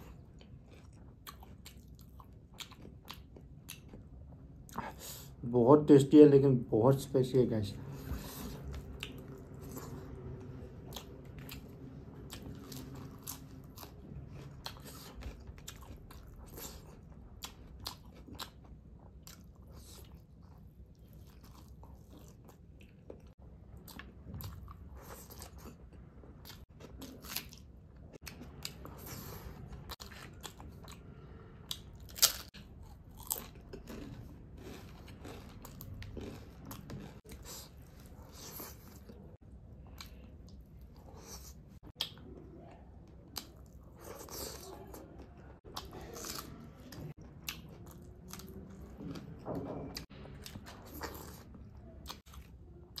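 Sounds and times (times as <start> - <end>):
person chewing food: 0.0 - 5.4, 7.9 - 53.0.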